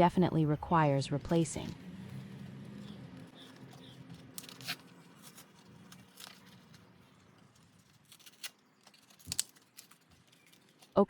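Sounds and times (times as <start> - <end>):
plastic packaging being torn: 1.3 - 11.0.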